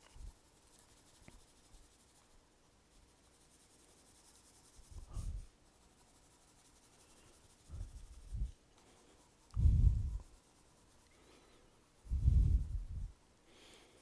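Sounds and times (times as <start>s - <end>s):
pencil scratching on paper: 0.0s - 12.9s.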